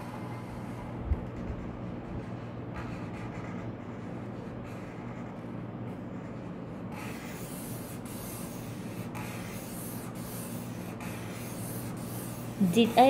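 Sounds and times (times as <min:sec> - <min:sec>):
marker scratching on paper: 0:00.0 - 0:13.0
steady low hum: 0:00.0 - 0:13.0.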